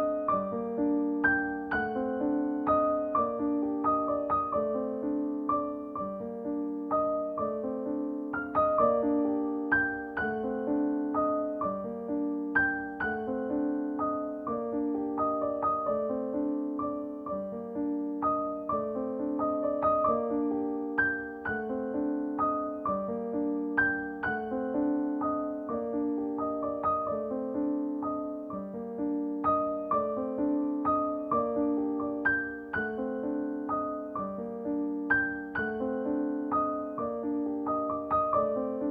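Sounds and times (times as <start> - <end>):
soft piano music: 0.0 - 38.9.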